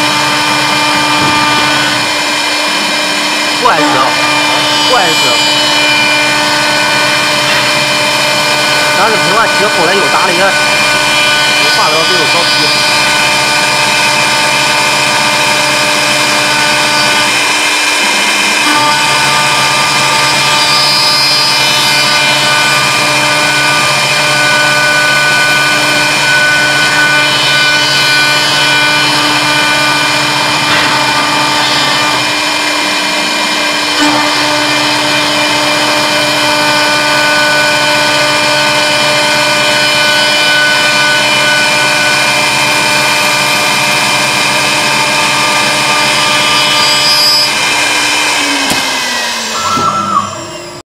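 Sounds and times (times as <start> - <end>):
router spindle whine: 0.0 - 50.8.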